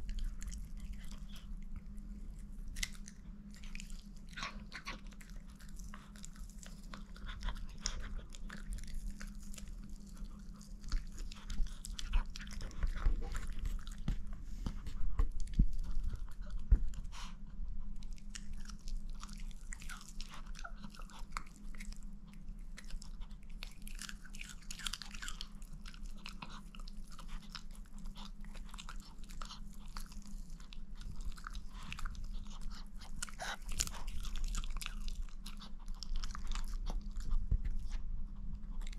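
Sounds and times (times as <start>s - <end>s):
dog chewing and crunching: 0.0s - 38.9s.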